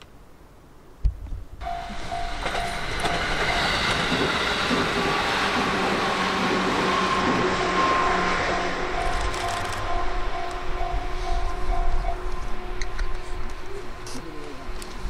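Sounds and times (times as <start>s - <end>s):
train rumbling on rails: 1.6s - 15.0s
whining tones: 1.6s - 15.0s.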